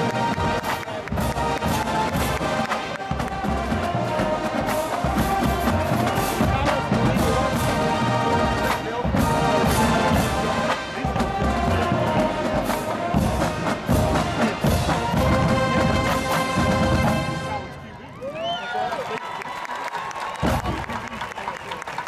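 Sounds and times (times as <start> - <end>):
drumline hits: 0.0 - 17.8, 20.3 - 21.3
marching band brass: 0.0 - 18.1, 20.3 - 21.9.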